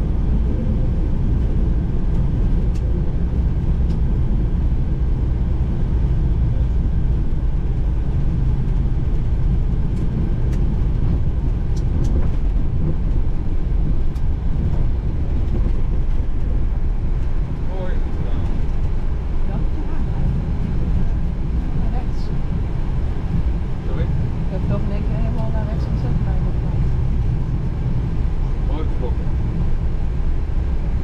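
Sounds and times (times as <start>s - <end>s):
airplane cockpit rumble: 0.0s - 31.0s.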